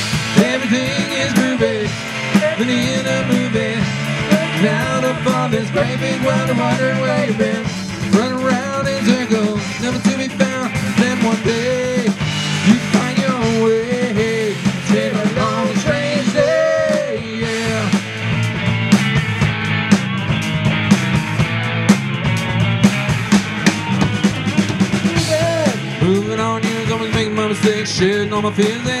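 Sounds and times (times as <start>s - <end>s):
drum kit: 0.0s - 29.0s
electric bass: 0.0s - 29.0s
electric guitars: 0.0s - 29.0s.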